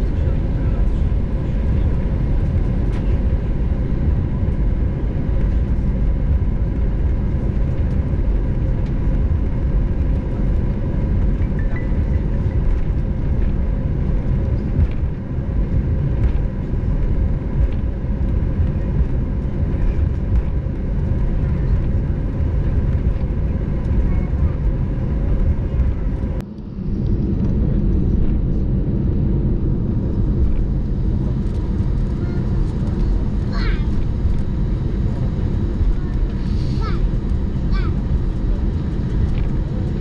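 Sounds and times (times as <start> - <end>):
airplane cabin rumble: 0.0 - 40.0
faint steady whine: 0.0 - 40.0.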